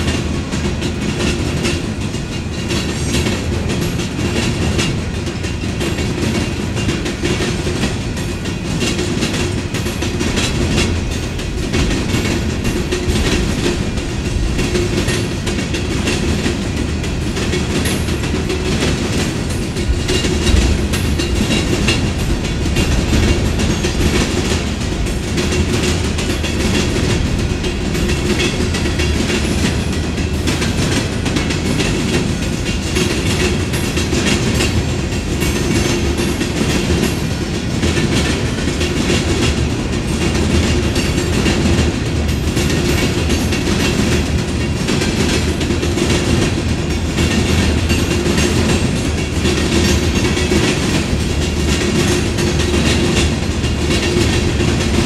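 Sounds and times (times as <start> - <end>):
train wheels clattering over track: 0.0 - 55.0.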